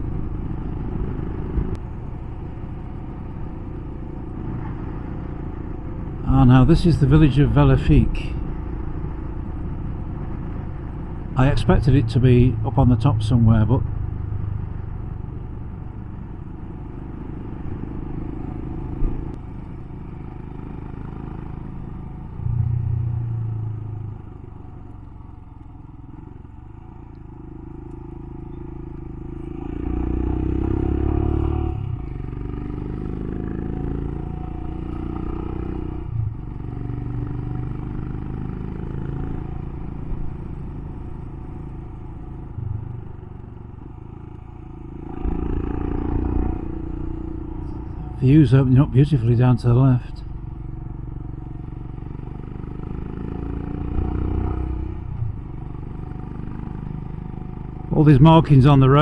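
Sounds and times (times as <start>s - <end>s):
motorcycle engine riding: 0.0s - 59.0s
road noise: 0.0s - 59.0s.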